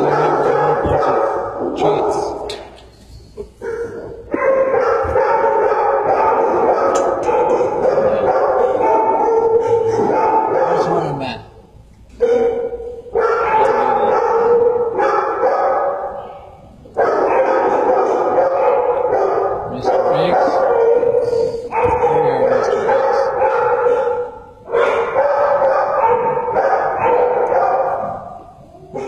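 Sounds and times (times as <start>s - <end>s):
dogs barking and howling: 0.0s - 2.5s, 3.6s - 11.2s, 12.2s - 29.0s.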